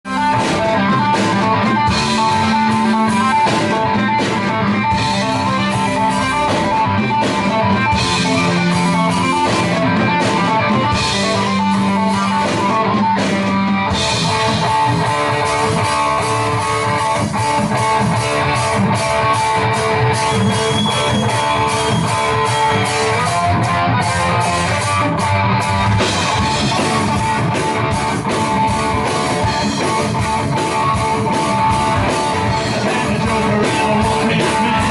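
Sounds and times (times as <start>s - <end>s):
guitar music with drums: 0.0s - 34.9s.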